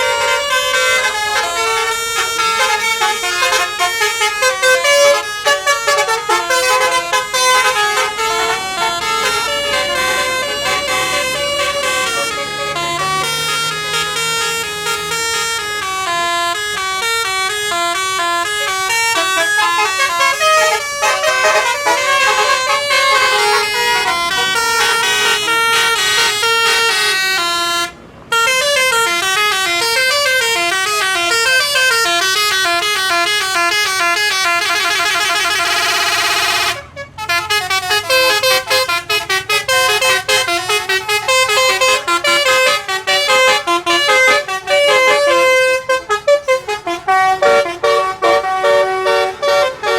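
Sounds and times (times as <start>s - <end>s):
musical bus horn melody: 0.0s - 49.9s.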